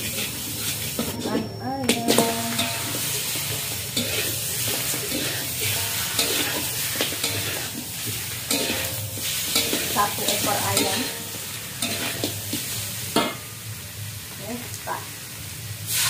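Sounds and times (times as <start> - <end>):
metal spatula scraping pan: 0.0 - 1.4, 2.0 - 13.5
chicken sizzling in wok: 0.0 - 16.0.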